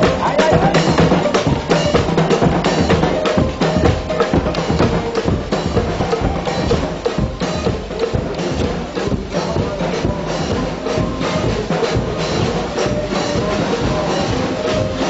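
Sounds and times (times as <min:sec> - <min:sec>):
bass drums and parade percussion: 0:00.0 - 0:15.0.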